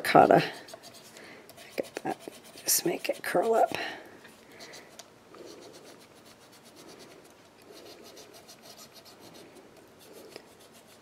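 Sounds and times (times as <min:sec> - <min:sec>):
stylus scratching paper: 0:00.3 - 0:03.7, 0:05.4 - 0:11.0.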